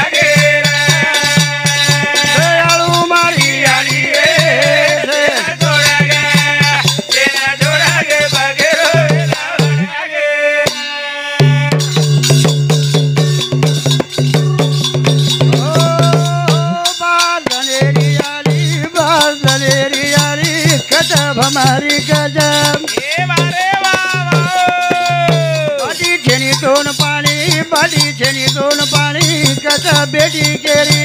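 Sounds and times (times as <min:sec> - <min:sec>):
jingling percussion beat: 0:00.0 - 0:31.0
man singing devotional song: 0:00.0 - 0:31.0.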